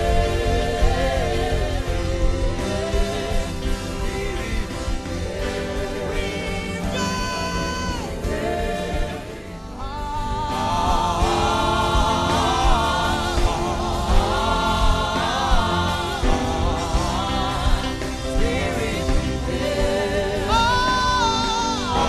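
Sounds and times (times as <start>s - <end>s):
gospel music backing: 0.0s - 22.0s.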